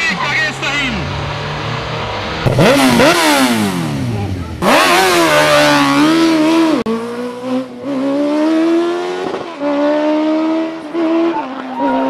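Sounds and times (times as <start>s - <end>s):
motorcycle accelerating through gears: 1.0s - 12.0s.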